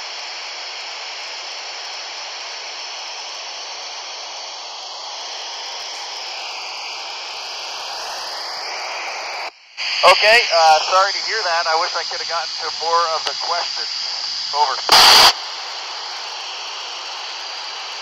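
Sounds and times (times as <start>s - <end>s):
radio hiss: 0.0s - 18.0s.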